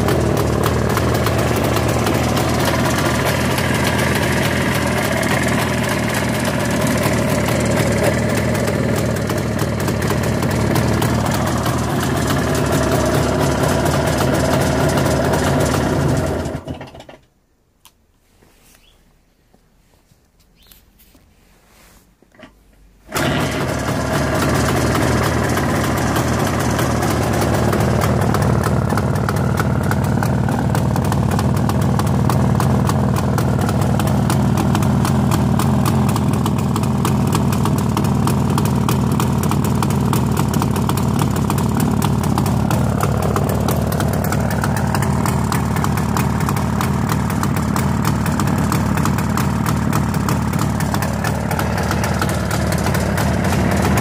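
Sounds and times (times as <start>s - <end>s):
motorcycle engine starting and idling: 0.0s - 17.5s, 22.3s - 54.0s.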